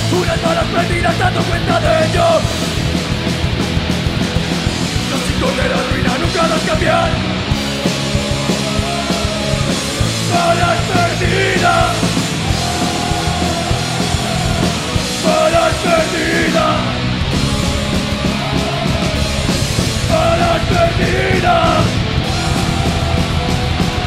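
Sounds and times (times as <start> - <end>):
metal band playing: 0.0 - 24.0.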